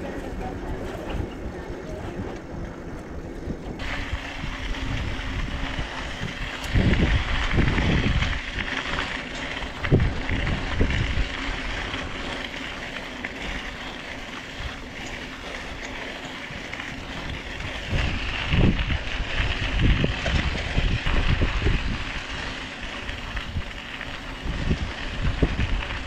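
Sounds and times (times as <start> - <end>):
bicycle tyres on gravel: 0.0 - 26.0
wind rumbling on microphone: 0.0 - 26.0.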